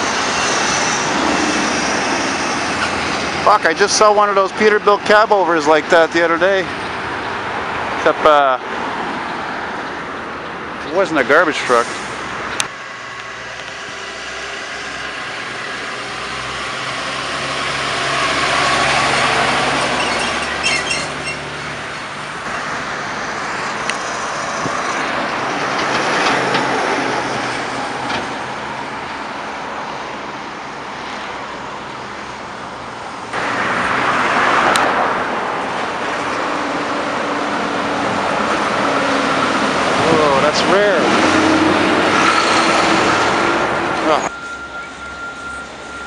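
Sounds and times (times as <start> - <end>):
trucks and cars driving past: 0.0 - 46.0.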